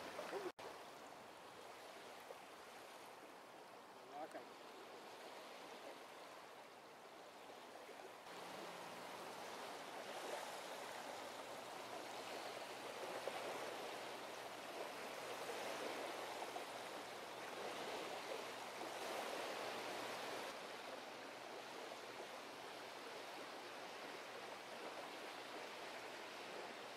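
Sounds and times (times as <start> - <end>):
rushing water: 0.0 - 26.9.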